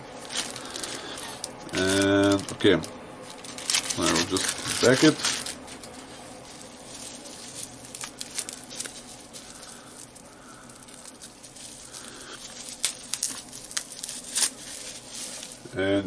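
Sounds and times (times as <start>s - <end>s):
packaging crinkling and rustling: 0.1s - 16.0s.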